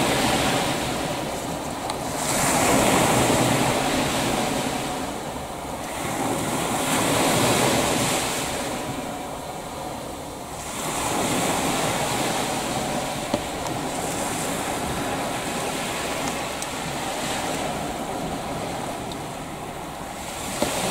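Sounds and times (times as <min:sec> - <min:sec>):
surf washing on shore: 0:00.0 - 0:20.9
wind rumbling on microphone: 0:00.0 - 0:20.9.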